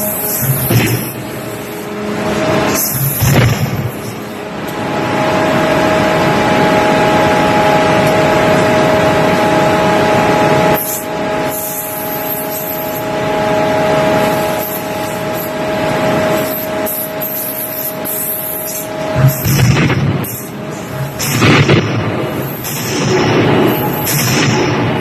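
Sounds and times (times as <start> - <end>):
dense mechanical noise: 0.0 - 25.0
machine whine: 0.0 - 25.0.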